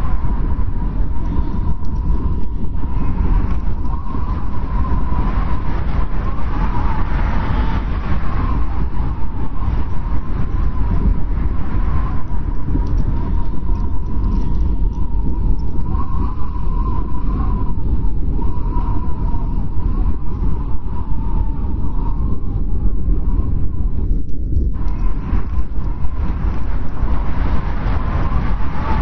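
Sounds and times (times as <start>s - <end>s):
snowstorm wind rumbling: 0.0s - 29.0s
wavering wind whistle: 0.0s - 29.0s.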